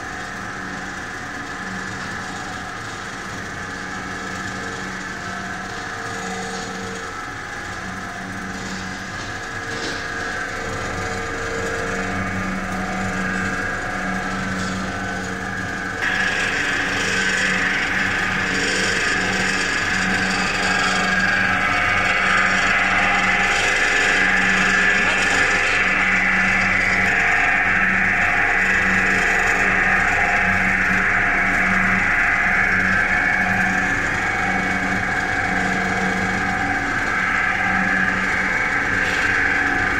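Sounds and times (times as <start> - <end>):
extruder mechanical whirr: 0.0 - 39.9
low hum: 0.0 - 39.9.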